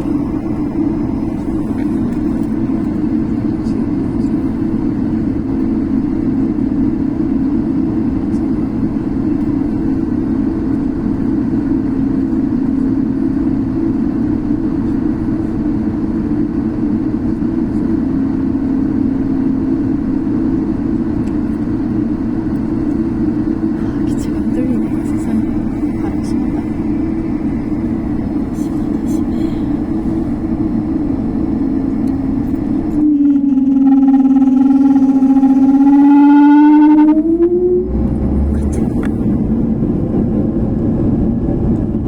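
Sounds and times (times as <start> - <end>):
jet airliner engines droning: 0.0 - 42.0.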